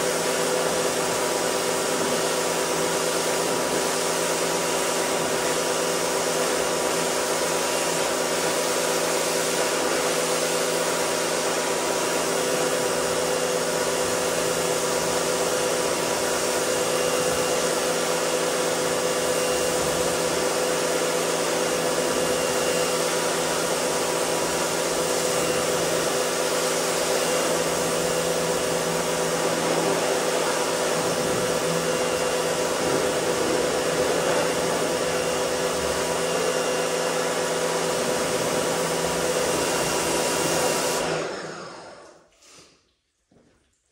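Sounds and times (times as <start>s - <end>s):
pressure washer hum: 0.0s - 42.6s.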